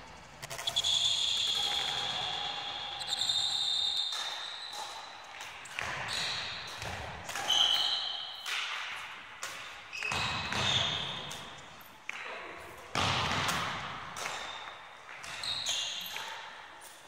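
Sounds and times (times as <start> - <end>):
shoes squeaking on hall floor: 0.0 - 17.0.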